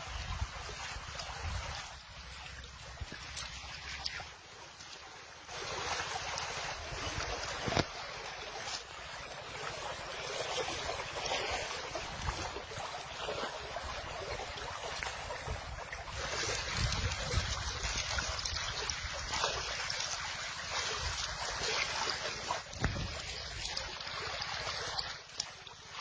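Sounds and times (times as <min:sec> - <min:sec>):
rushing splashing water: 0:00.0 - 0:26.0.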